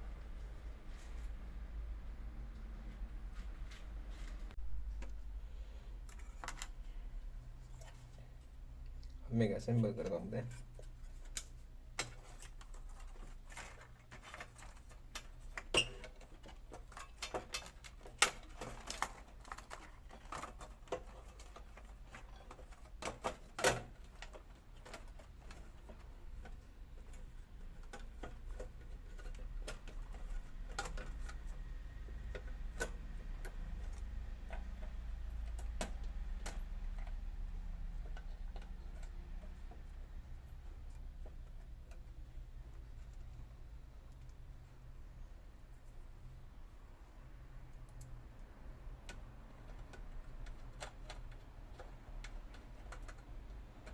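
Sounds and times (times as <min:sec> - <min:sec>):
parts clicking and knocking: 0:04.3 - 0:09.2, 0:09.8 - 0:53.9.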